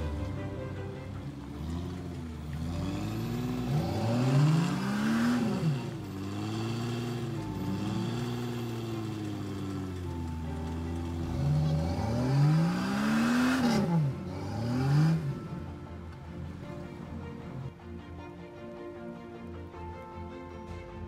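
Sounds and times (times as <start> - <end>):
off-road vehicle engines revving: 0.0 - 17.7.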